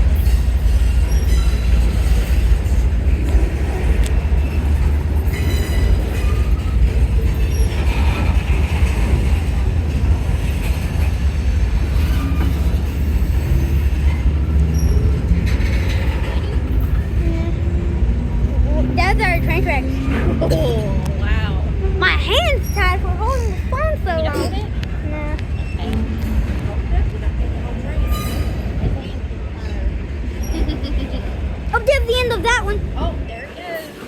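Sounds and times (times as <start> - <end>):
train wheels rumbling on rail: 0.0 - 34.0
high wheel squeaks: 0.1 - 26.7, 27.9 - 34.0.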